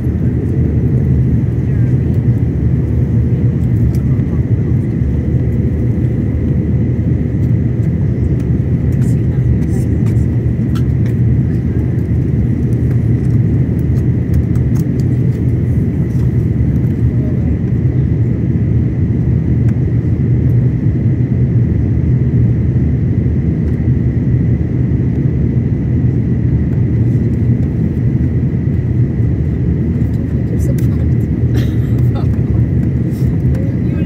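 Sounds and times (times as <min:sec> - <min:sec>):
aircraft cabin rumble: 0:00.0 - 0:34.0.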